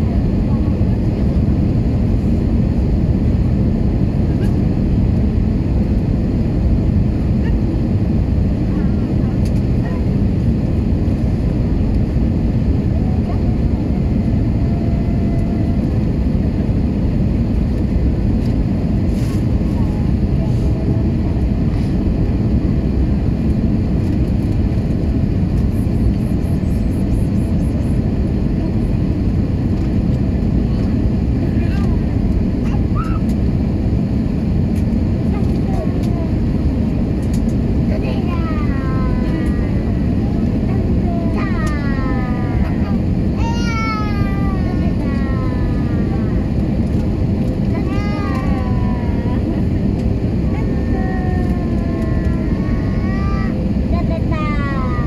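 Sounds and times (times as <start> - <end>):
airplane cabin engine rumble: 0.0 - 55.0
rushing airflow: 0.0 - 55.0.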